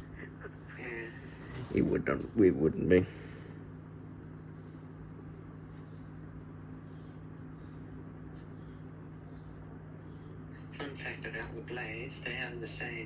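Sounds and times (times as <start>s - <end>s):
ceiling fans humming: 0.0s - 13.0s.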